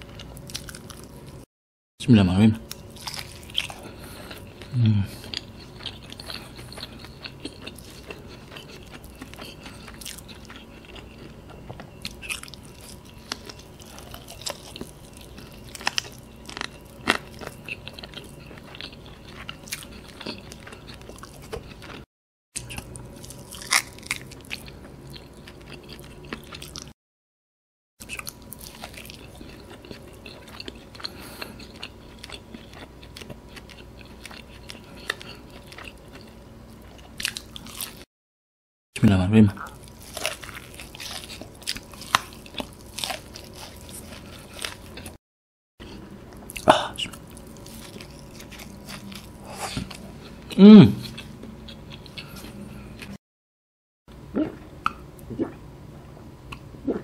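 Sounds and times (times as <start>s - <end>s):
chewing and crunching fried chicken: 0.0s - 1.5s, 2.6s - 27.0s, 28.0s - 38.1s, 39.1s - 45.2s, 45.8s - 53.2s.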